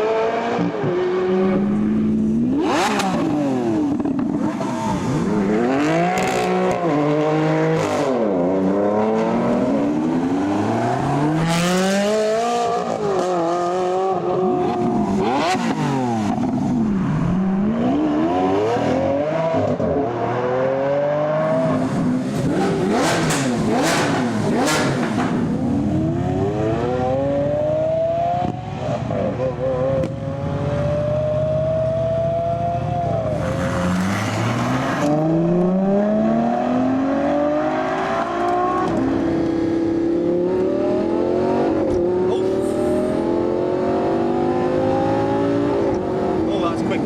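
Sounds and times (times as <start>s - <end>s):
sports car engine revving: 0.0s - 47.0s.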